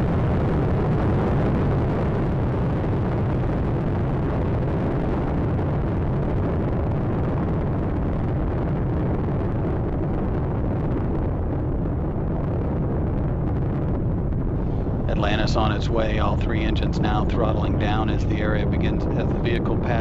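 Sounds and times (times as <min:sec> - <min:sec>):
loud rocket rumble: 0:00.0 - 0:20.0.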